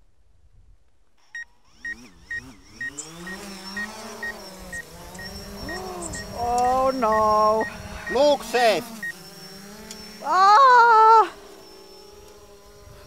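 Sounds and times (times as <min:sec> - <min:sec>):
drone motors whining: 0:01.2 - 0:13.0.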